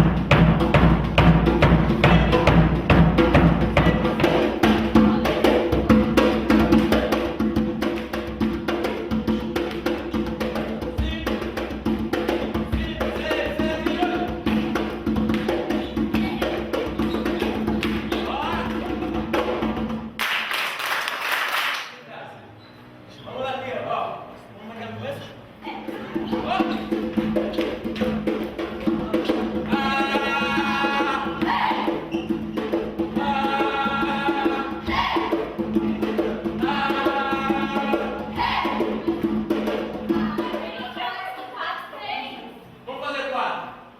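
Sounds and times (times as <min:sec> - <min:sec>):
percussion group drumming: 0:00.0 - 0:21.6, 0:25.7 - 0:41.3.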